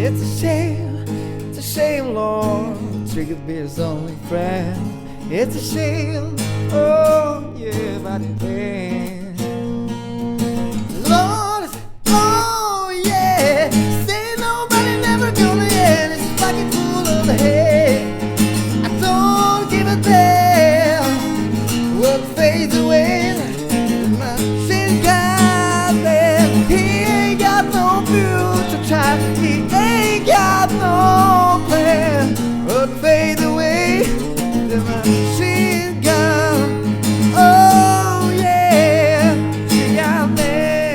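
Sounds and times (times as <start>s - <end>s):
acoustic guitar rock cover: 0.0s - 40.9s.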